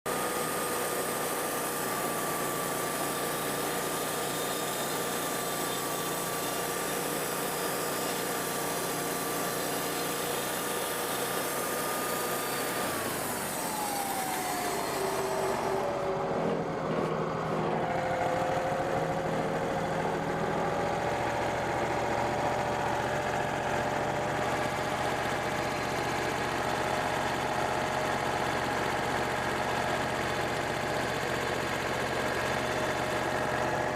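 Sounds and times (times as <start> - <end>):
band sawmill engine drone: 0.1 - 33.9.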